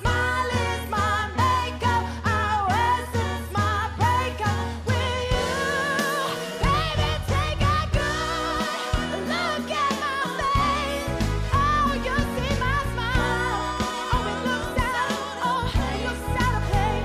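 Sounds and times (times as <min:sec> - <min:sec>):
live band playing: 0:00.0 - 0:17.0
woman singing with vibrato: 0:00.0 - 0:17.0.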